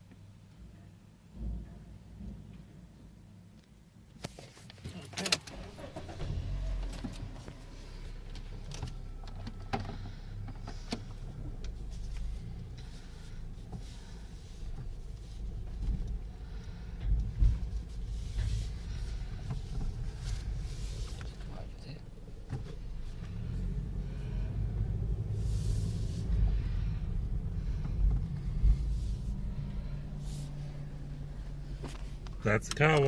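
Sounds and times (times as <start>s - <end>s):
car wash rumble inside car: 4.3s - 33.0s.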